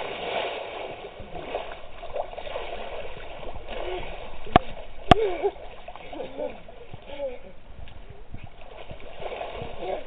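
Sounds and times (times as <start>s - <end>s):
pool water splashing: 0.0s - 10.0s.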